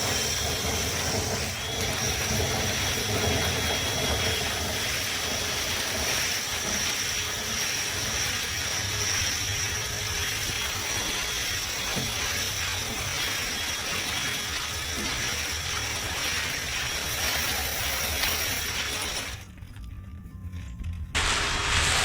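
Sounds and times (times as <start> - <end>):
whooshing rattling machine: 0.0 - 19.5, 21.2 - 22.0
faint high whine: 0.0 - 22.0.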